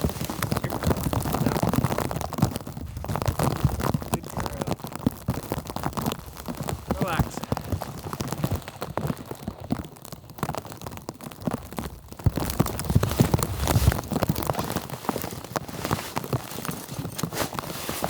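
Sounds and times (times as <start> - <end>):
footsteps crunching through snow: 0.0 - 18.0.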